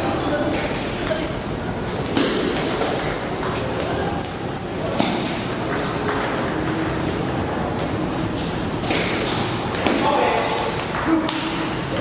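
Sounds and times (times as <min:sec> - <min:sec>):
busy hall hum: 0:00.0 - 0:12.0.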